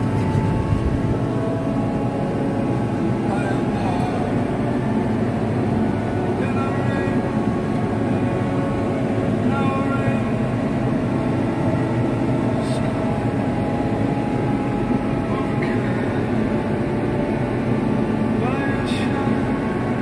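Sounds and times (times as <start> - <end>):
high whine: 0.0 - 20.0
tractor engine running: 0.0 - 20.0.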